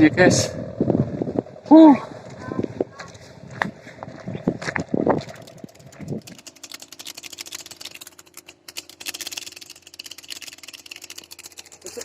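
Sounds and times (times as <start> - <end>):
kite hummer buzzing in wind: 0.0 - 12.0.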